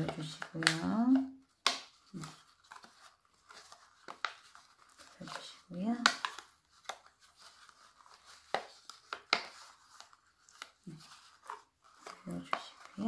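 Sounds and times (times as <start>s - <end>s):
plastic strips crinkling: 0.0s - 13.0s.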